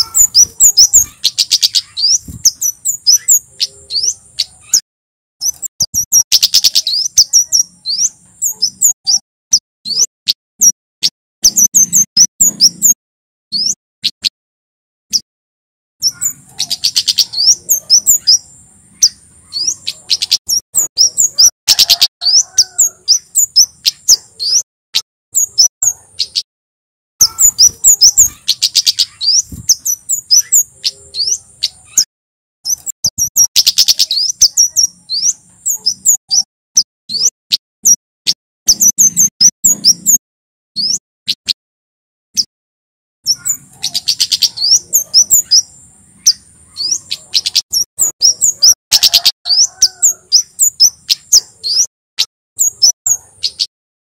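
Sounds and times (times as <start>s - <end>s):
bird chirping song: 0.0s - 4.8s, 5.4s - 14.3s, 15.1s - 15.3s, 16.0s - 24.7s, 25.3s - 26.5s, 27.2s - 40.2s, 40.8s - 41.6s, 42.3s - 42.5s, 43.2s - 53.7s.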